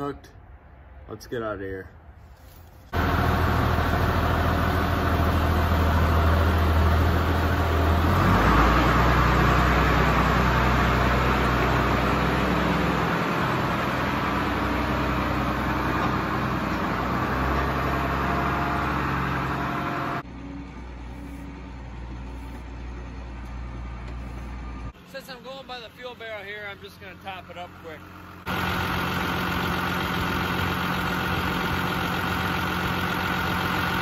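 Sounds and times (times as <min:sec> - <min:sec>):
tractor diesel engine running: 0:02.9 - 0:34.0.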